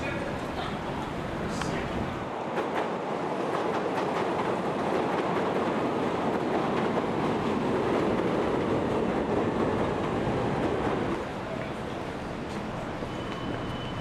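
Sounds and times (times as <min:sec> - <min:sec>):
elevated train rail noise: 0:00.0 - 0:14.0.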